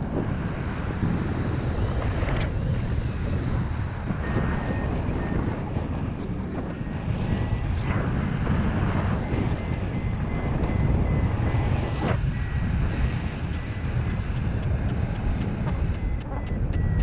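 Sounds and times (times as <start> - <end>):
wind rumbling over microphone: 0.0 - 17.0.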